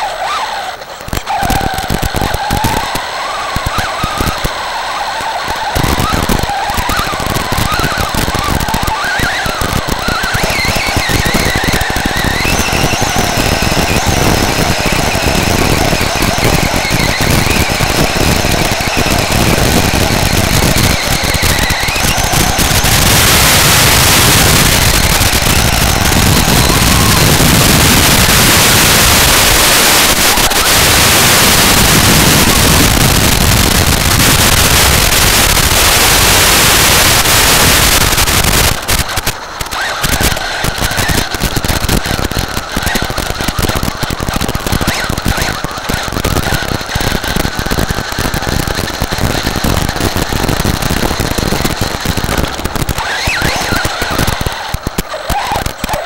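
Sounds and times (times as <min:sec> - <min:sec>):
faint steady whine: 0:00.0 - 0:56.0
static hiss: 0:00.0 - 0:56.0.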